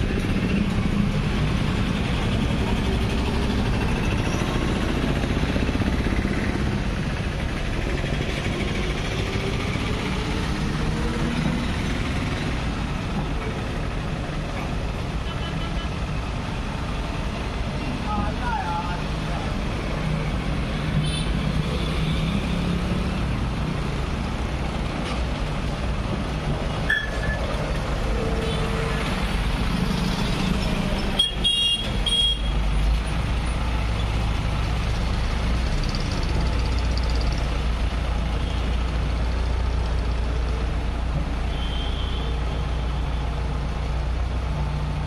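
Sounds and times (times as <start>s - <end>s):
passing motorcycles and vehicles: 0.0s - 41.6s.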